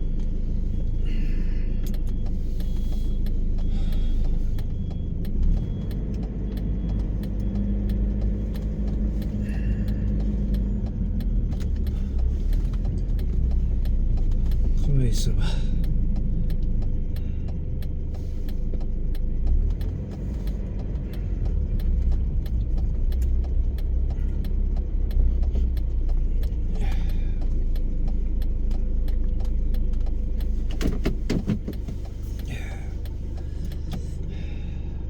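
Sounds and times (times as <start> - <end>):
car engine hum from inside: 0.0 - 35.0
regular ticking: 0.0 - 35.0.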